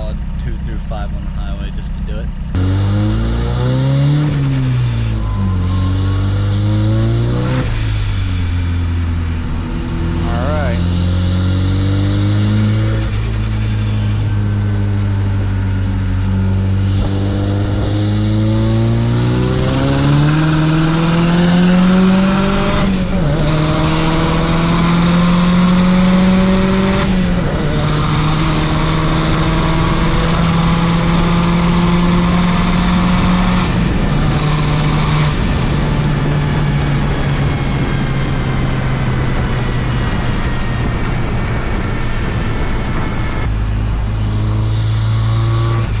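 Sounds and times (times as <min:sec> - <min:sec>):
car engine accelerating through gears: 0:00.0 - 0:46.0
road noise: 0:00.0 - 0:46.0.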